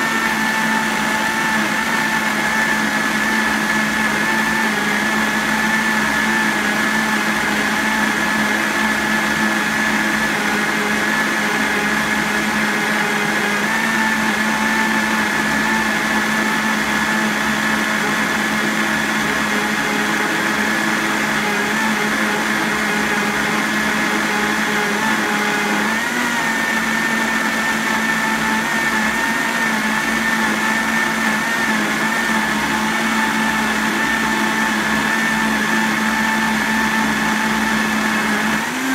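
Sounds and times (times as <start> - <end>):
blender motor running: 0.0 - 38.9.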